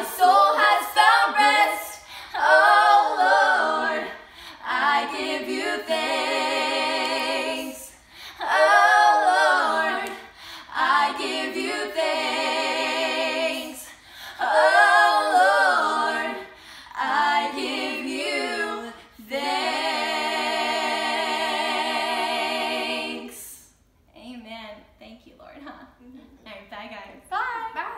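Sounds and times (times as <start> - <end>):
women singing a cappella: 0.0 - 23.8.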